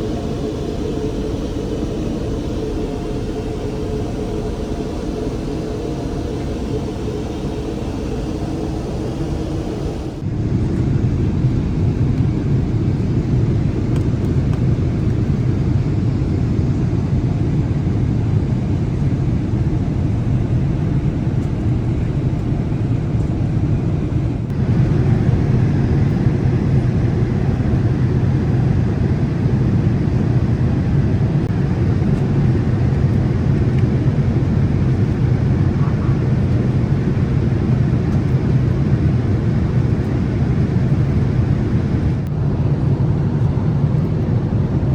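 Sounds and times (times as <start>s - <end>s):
jet airliner rumble: 0.0s - 44.9s.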